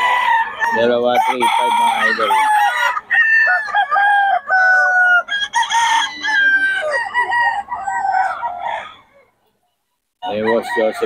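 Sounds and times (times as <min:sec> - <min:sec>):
roosters crowing: 0:00.0 - 0:09.4, 0:10.2 - 0:11.0.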